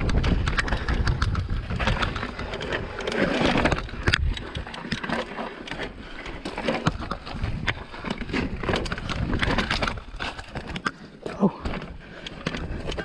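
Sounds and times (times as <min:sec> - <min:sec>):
bike rattling and knocking: 0:00.0 - 0:13.0
bike tyres crunching over stones: 0:00.0 - 0:13.0.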